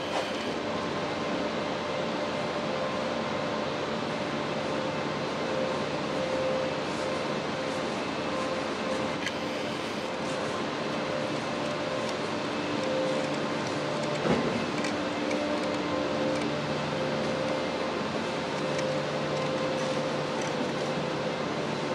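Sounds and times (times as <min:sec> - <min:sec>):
mechanical hum with held tones: 0:00.0 - 0:21.9.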